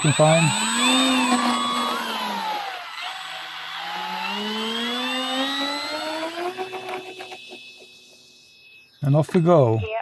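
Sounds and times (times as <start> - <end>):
electric motor and propeller whining: 0.0 - 10.0.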